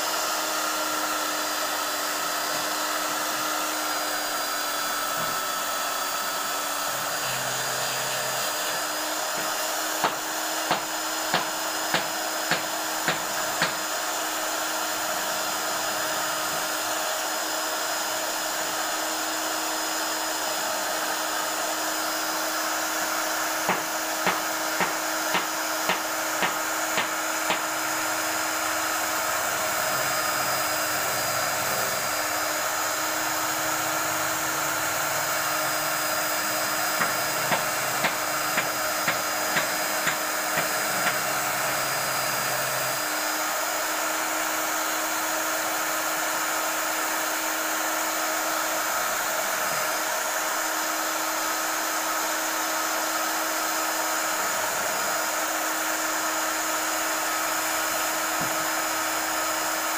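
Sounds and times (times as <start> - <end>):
belt sander sanding wood: 0.0 - 59.9.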